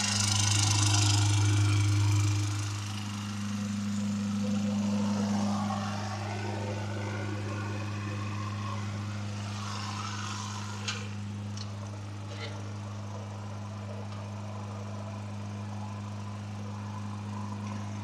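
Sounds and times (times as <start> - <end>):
riding lawn mower engine: 0.0 - 18.0.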